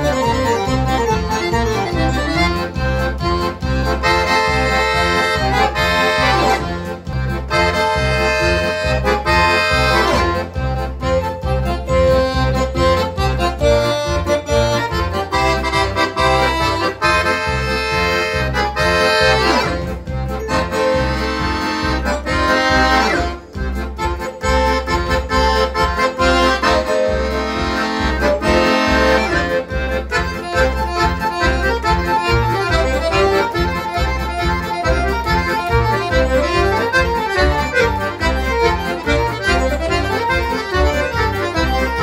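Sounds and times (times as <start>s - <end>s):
accordion playing fast tune: 0.0s - 42.0s.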